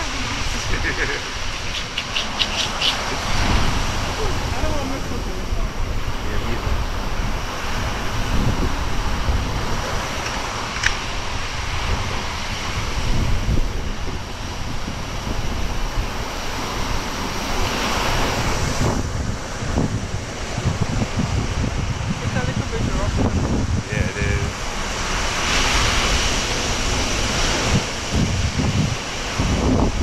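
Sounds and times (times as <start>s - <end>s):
ocean surf washing onto beach: 0.0s - 30.0s
wind buffeting microphone: 0.0s - 30.0s.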